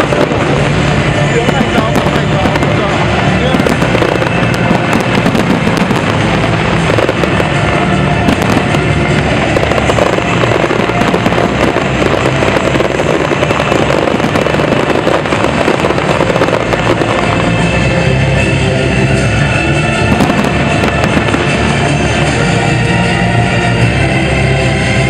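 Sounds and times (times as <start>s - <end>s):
fireworks crackling and popping: 0.0s - 25.0s.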